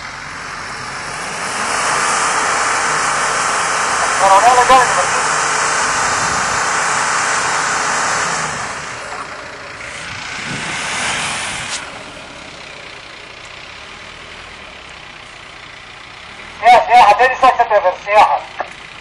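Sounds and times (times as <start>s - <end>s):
vehicle engine working hard: 0.0s - 19.0s.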